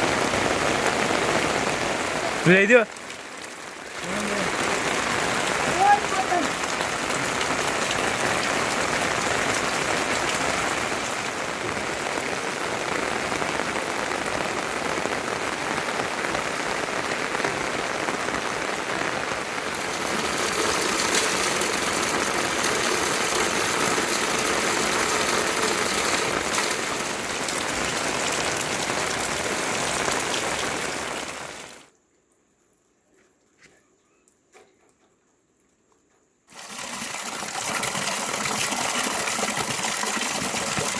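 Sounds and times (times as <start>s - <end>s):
heavy rain falling: 0.0s - 31.9s, 36.5s - 40.9s.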